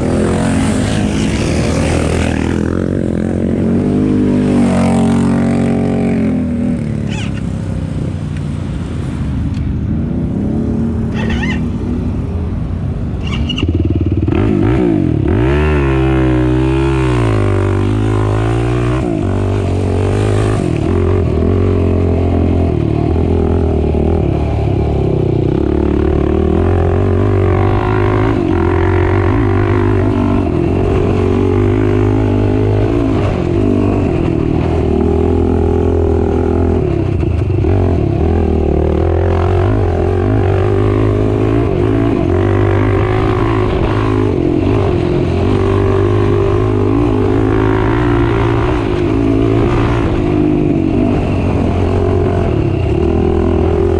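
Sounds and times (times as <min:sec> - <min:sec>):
racing atv engine revving: 0:00.0 - 0:07.5, 0:13.3 - 0:53.9.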